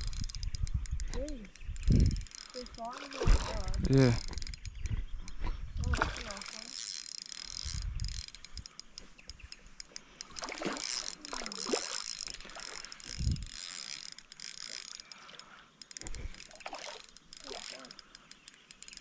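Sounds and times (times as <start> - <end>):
fishing reel ratchet clicking: 0.0 - 19.0.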